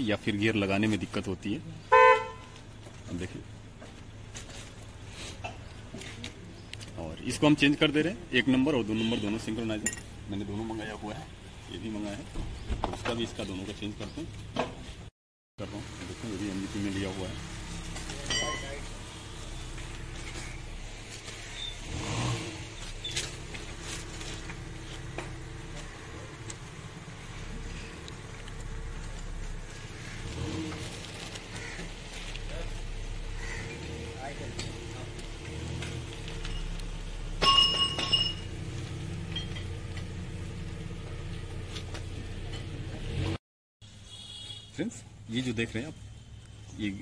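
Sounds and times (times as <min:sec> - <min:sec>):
vehicle engine hum: 0:00.0 - 0:47.0.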